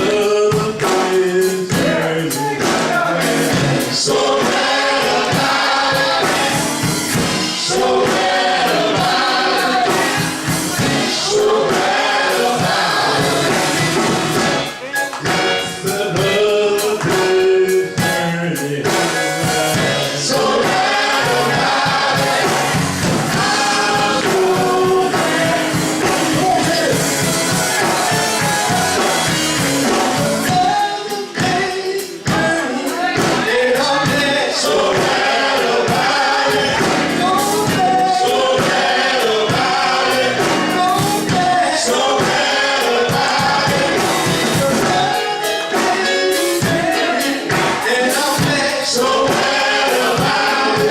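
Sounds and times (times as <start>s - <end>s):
choir singing gospel: 0.0s - 50.9s
instrumental accompaniment: 0.0s - 50.9s.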